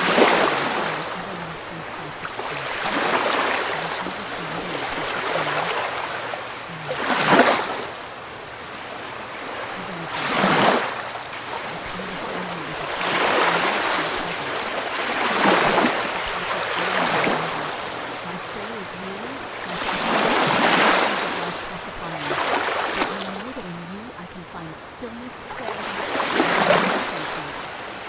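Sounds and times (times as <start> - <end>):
ocean waves washing in: 0.0 - 28.0.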